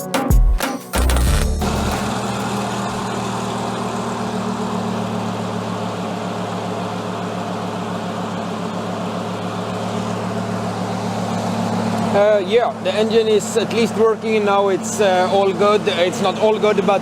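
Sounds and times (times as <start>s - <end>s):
race car engine idling: 1.6s - 17.0s.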